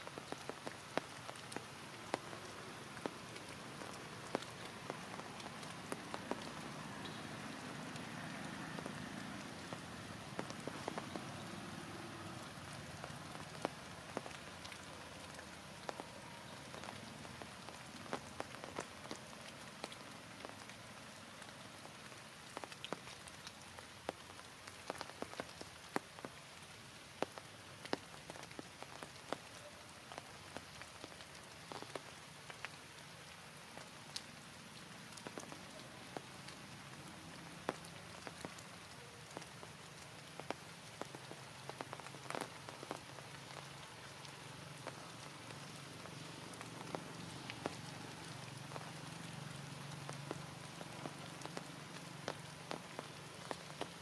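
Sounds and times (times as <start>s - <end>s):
rain falling: 0.0s - 54.0s
sharp ticks of raindrops: 0.0s - 54.0s.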